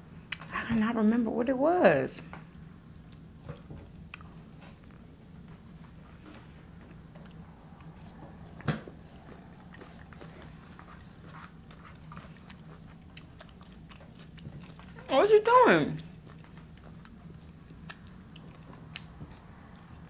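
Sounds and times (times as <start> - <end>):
faint steady hum: 0.0 - 20.0
chewing mouth sounds: 2.9 - 15.1, 16.0 - 20.0.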